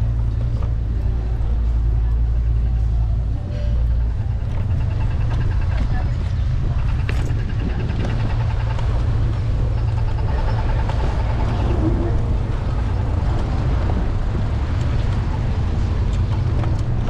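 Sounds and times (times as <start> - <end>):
road noise: 0.0 - 17.0
traffic: 0.0 - 17.0
wind rumble: 0.0 - 17.0.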